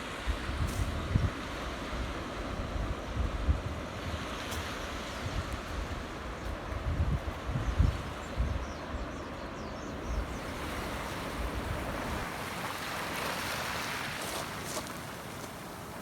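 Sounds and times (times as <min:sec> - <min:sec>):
sea waves washing on shore: 0:00.0 - 0:16.0
wind buffeting microphone: 0:00.2 - 0:16.0.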